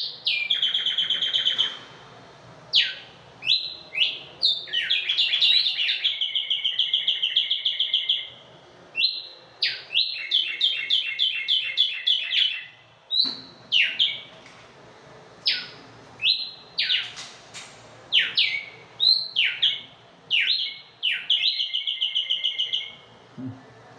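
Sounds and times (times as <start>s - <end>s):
songbirds singing with trills: 0.0s - 1.8s, 2.7s - 14.4s, 15.4s - 17.3s, 18.1s - 23.1s.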